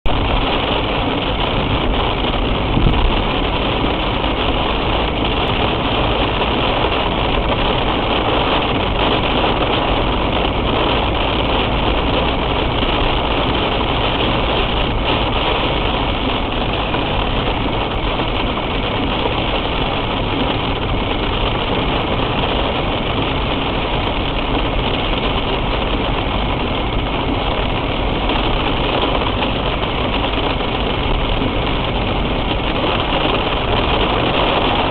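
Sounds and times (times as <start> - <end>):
car engine running: 0.0 - 34.9
rain on a car: 0.0 - 34.9.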